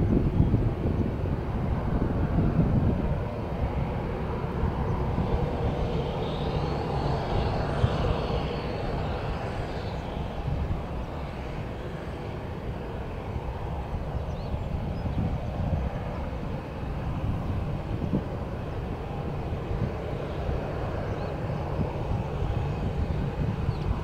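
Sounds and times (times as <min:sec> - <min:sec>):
jet engine whine and rumble: 0:00.0 - 0:24.0.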